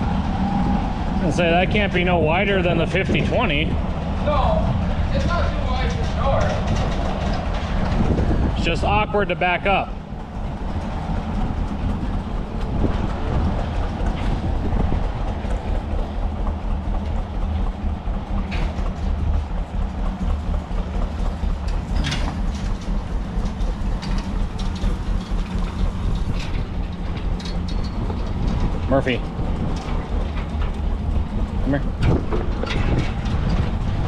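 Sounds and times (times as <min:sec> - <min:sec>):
tractor engine chugging: 0:00.0 - 0:34.0
sharp clanks: 0:04.4 - 0:34.0.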